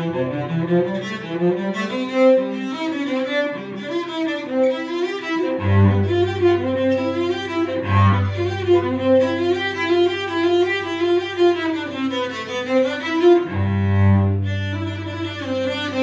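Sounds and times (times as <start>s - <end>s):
bowed cello run: 0.0s - 16.0s
low cello note: 0.0s - 16.0s.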